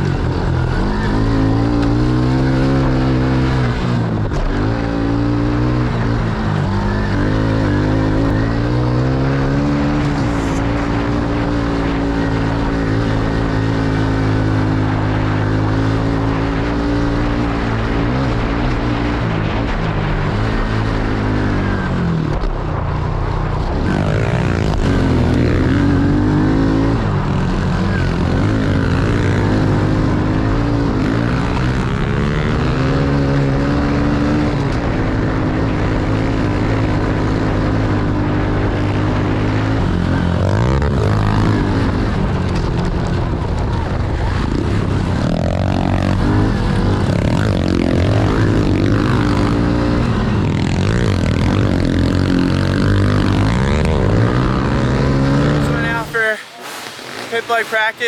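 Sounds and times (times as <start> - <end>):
motorbike engine revving: 0.0 - 22.0, 23.8 - 58.0.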